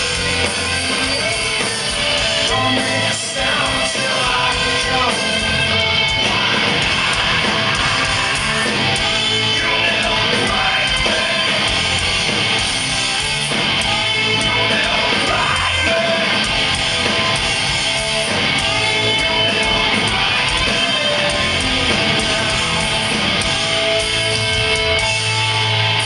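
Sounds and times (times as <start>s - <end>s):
bass: 0.0s - 26.0s
distorted electric guitars: 0.0s - 26.0s
drums: 0.0s - 26.0s.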